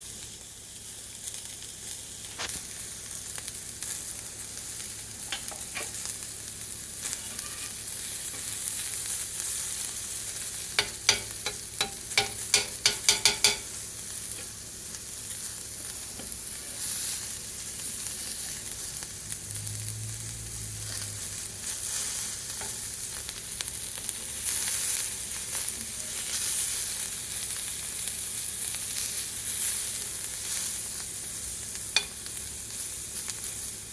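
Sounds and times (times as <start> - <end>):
food sizzling in a pan: 0.0 - 33.9.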